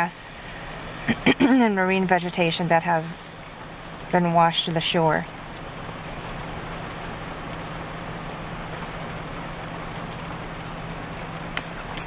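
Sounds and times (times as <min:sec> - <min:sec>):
constant low hum: 0:00.0 - 0:12.0
steady rain hiss: 0:00.0 - 0:12.0.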